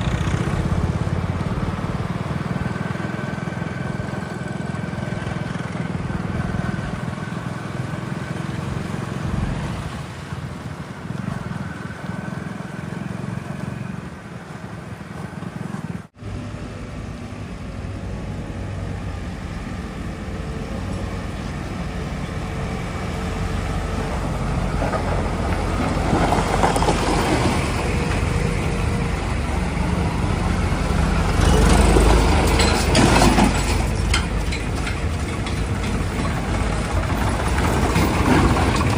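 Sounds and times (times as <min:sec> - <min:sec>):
diesel engine of heavy machinery: 0:00.0 - 0:38.9.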